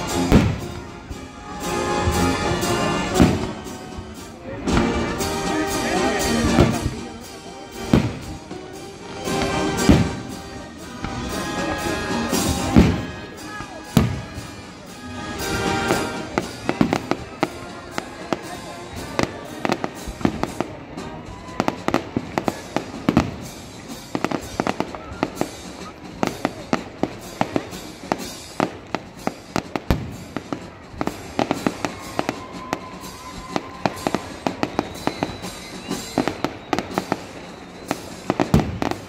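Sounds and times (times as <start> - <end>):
fireworks bursting with sharp bangs: 0.0 - 39.0.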